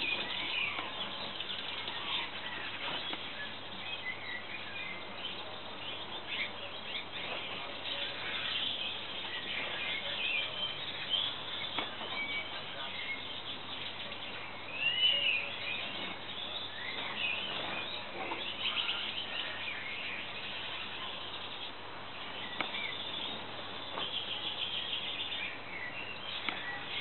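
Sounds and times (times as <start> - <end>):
finches chirping: 0.0 - 27.0.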